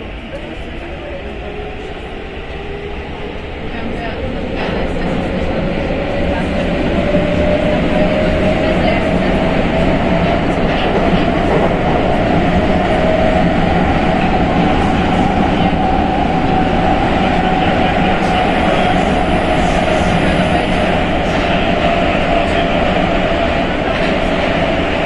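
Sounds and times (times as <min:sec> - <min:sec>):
metro train rumbling on rails: 0:00.0 - 0:25.0.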